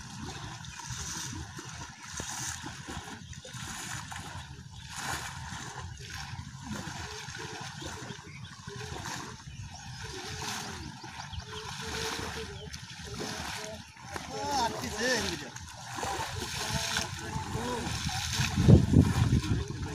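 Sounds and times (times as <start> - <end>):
water splashing from wading: 0.0 - 19.9.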